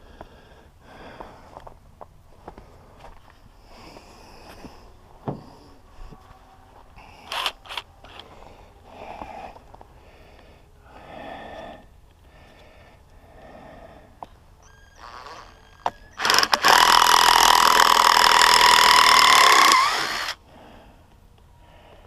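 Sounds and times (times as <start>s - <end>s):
person breathing heavily: 0.0s - 1.8s, 2.4s - 14.6s, 16.2s - 22.0s.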